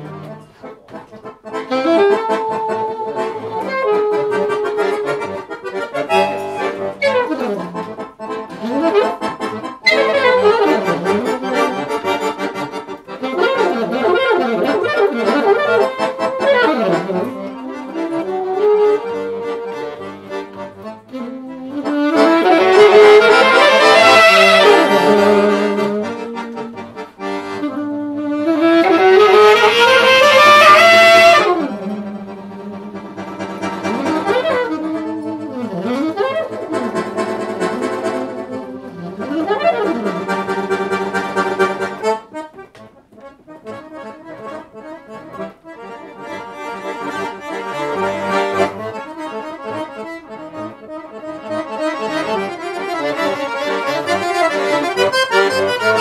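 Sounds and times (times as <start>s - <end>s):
alto saxophone playing jazz: 0.0s - 56.0s
button accordion playing jazz: 0.0s - 56.0s.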